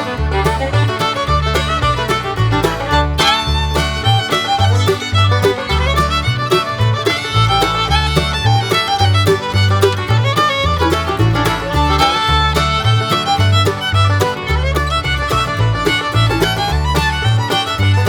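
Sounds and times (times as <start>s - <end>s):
fiddle-led bluegrass music: 0.0s - 18.0s.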